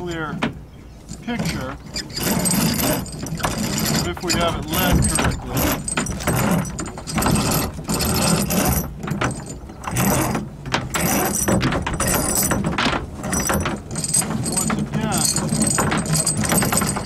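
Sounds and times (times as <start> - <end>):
block sheaves turning: 0.0 - 17.0
rope rasping through blocks: 0.0 - 17.0.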